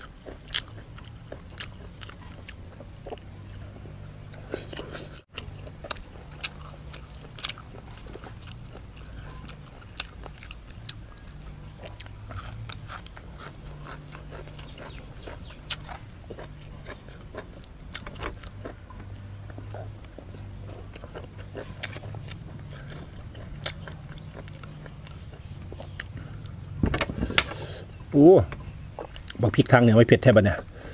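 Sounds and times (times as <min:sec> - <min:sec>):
person chewing and biting: 0:00.0 - 0:26.6, 0:27.2 - 0:29.4
low steady hum: 0:00.0 - 0:30.9.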